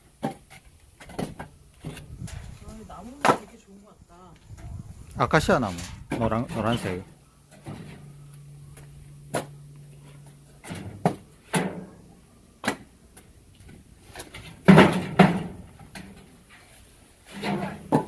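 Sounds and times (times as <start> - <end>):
low steady hum: 0.6 - 17.2.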